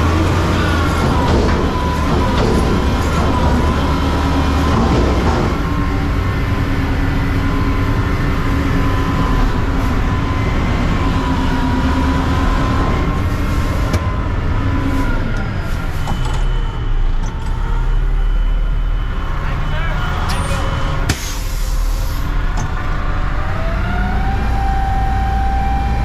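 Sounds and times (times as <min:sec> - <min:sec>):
truck engine running: 0:00.0 - 0:24.3.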